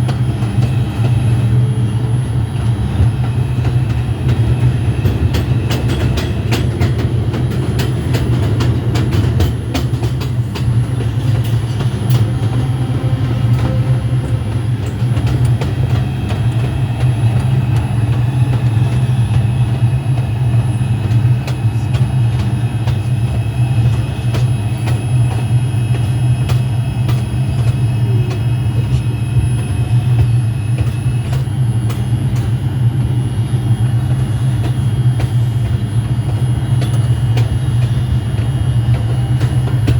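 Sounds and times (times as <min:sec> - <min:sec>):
sharp clicks of train wheels: 0:00.0 - 0:39.9
subway train rumbling: 0:00.0 - 0:39.9.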